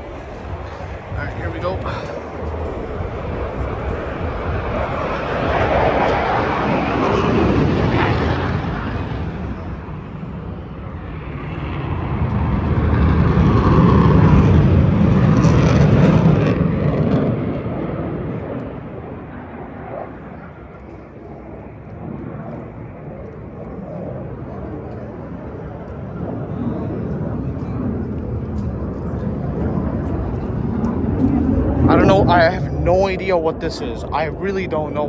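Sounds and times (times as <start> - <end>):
jet aircraft roaring overhead: 0.0 - 35.0.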